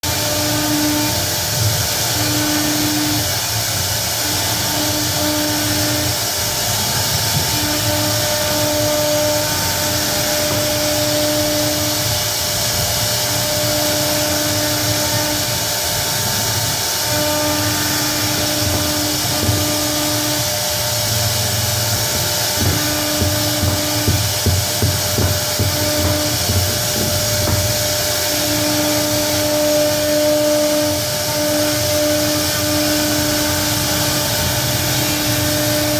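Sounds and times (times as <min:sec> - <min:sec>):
low machine hum: 0:00.0 - 0:35.9
router spindle cutting hiss: 0:00.0 - 0:35.9.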